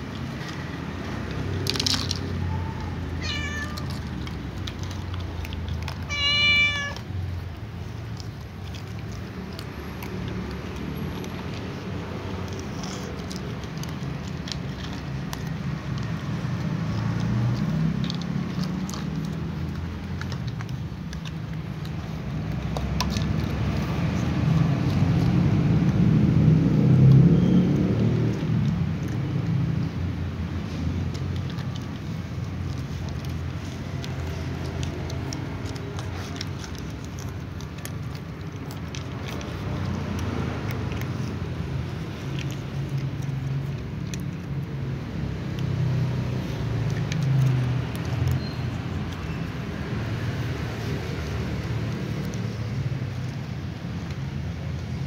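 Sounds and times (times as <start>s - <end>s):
cats crunching dry kibble: 0.0s - 55.0s
kittens chewing and lapping: 0.0s - 55.0s.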